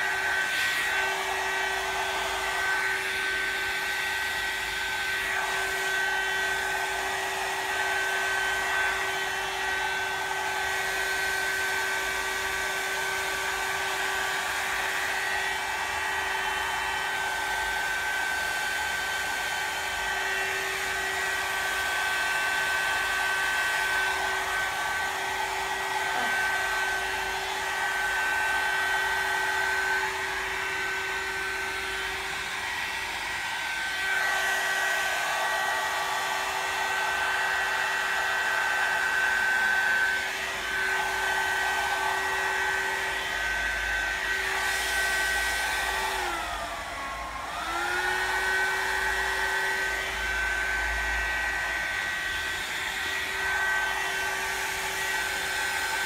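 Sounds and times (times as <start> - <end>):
hair dryer brush motor whine: 0.0 - 56.0.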